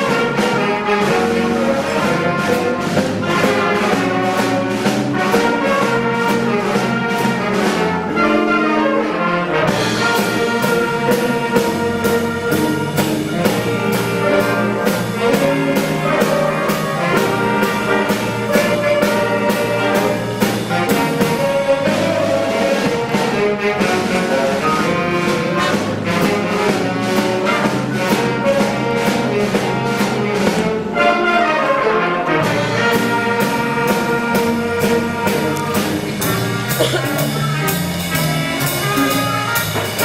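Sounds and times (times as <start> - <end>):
brass playing a march tune: 0.0 - 40.0
steady drum beat: 0.0 - 40.0.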